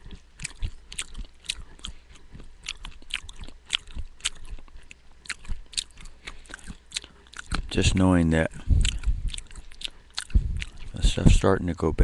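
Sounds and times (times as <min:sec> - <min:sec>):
crisp crunchy chewing: 0:00.0 - 0:11.2.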